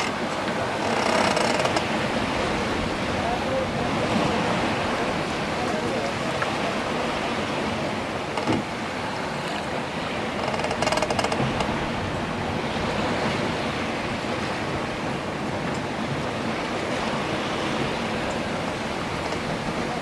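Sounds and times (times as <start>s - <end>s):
water rushing: 0.0s - 20.0s
wind: 0.0s - 20.0s.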